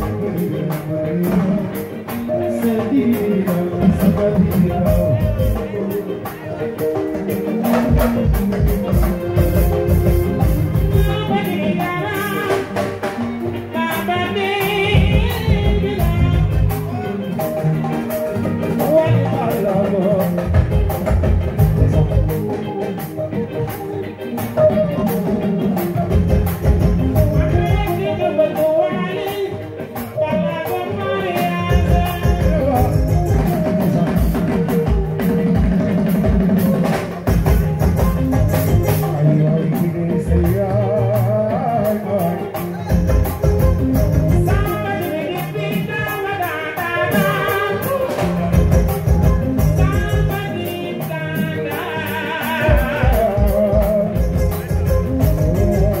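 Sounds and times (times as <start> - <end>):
man singing into microphone: 0.0 - 9.5, 10.7 - 17.6, 18.2 - 22.9, 27.1 - 36.9, 38.8 - 43.4, 44.1 - 56.0
live band playing: 0.0 - 56.0.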